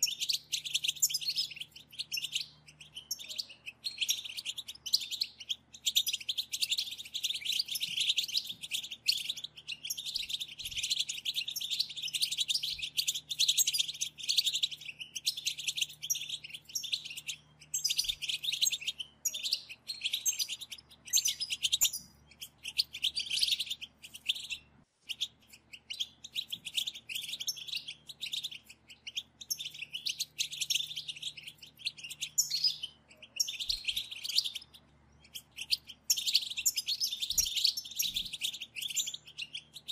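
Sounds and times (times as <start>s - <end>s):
goldfinches chattering: 0.0s - 39.9s.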